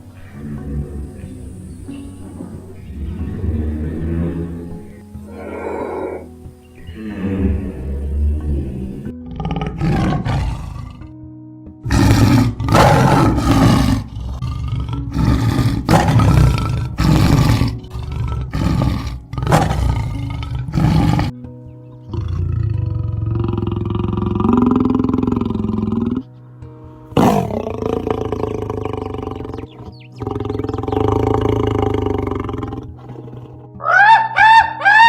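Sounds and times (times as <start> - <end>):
large animal roaring: 0.0 - 6.3, 6.9 - 11.1, 11.8 - 21.4, 22.1 - 26.3, 27.1 - 34.8
background music: 0.0 - 35.0.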